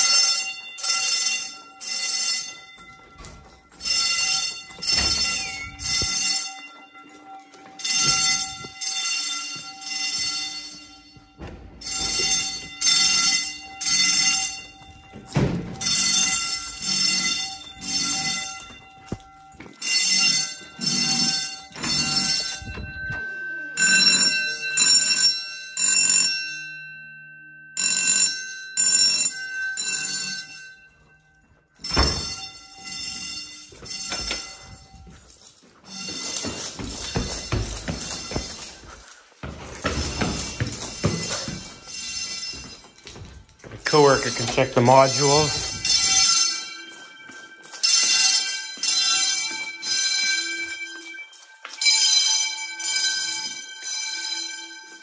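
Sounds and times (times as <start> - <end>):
fire alarm pulses: 0.0 - 55.0.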